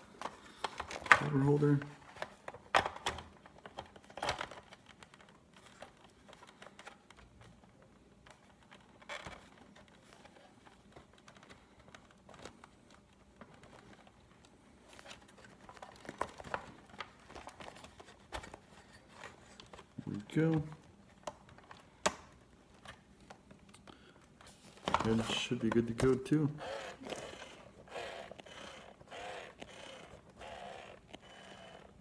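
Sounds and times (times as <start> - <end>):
plastic parts clicking and rustling: 0.0 - 32.0.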